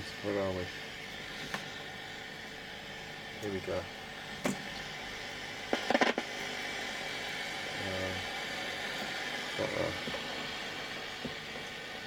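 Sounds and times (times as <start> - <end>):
radio receiver hiss and buzz: 0.0 - 12.0.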